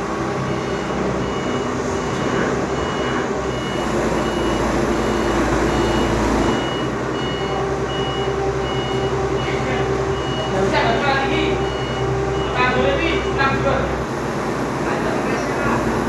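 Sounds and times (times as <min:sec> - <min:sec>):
reversing alarm beeping: 0:00.4 - 0:13.6.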